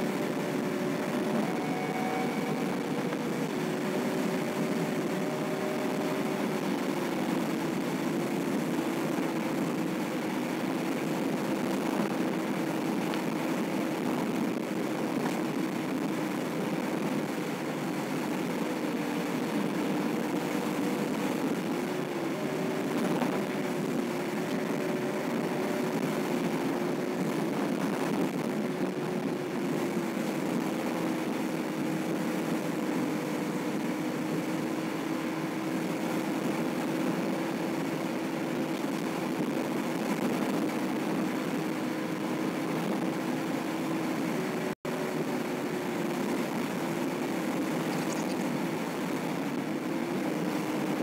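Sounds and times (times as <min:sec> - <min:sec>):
car engine and tyre drone: 0:00.0 - 0:51.0.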